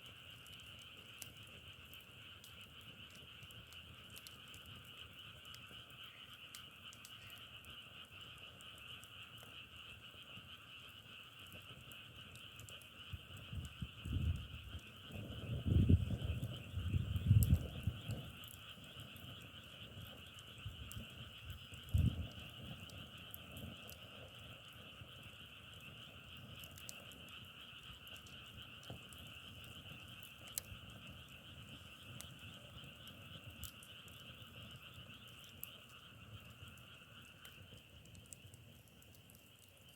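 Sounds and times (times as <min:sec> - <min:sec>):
chorus of frogs calling: 0:01.5 - 0:39.9.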